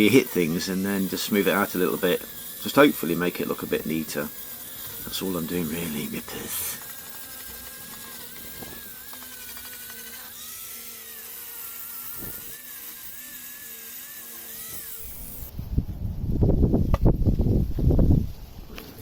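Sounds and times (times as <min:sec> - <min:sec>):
sanding disc whining on metal: 0:00.0 - 0:15.5.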